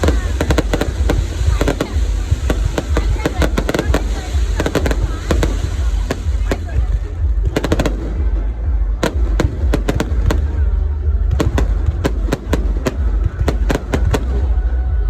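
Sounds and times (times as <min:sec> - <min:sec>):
fireworks cracking: 0:00.0 - 0:14.7
low rumble: 0:00.0 - 0:15.0.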